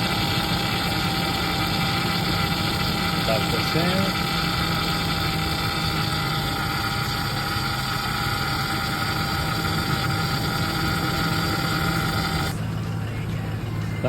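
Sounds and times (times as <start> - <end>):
power steering whine: 0.0 - 14.0
truck engine idling: 0.0 - 14.0.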